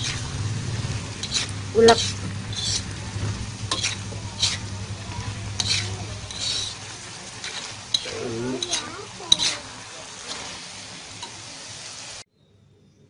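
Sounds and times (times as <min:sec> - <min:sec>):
metal spoon stirring food: 0:00.0 - 0:11.6.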